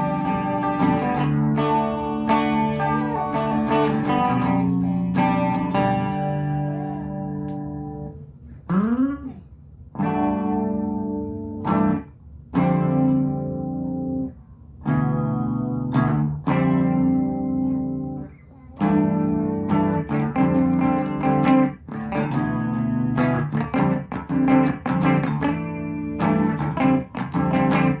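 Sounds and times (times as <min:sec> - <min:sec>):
electric guitar playing: 0:00.0 - 0:28.0.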